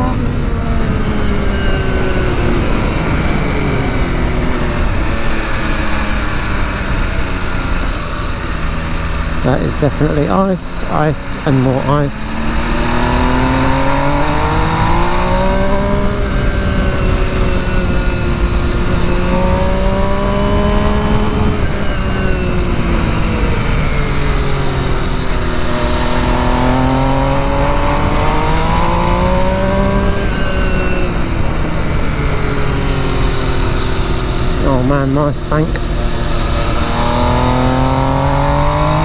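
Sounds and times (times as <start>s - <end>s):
motorcycle engine revving: 0.0s - 39.0s
wind over microphone: 0.0s - 39.0s.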